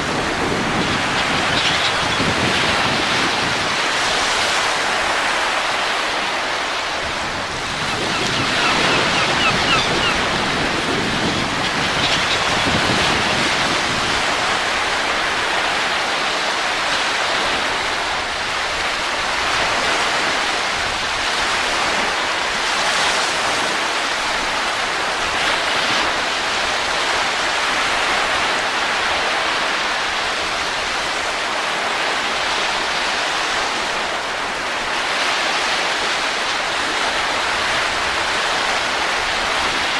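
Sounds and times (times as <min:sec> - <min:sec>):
rushing wind: 0:00.0 - 0:39.9.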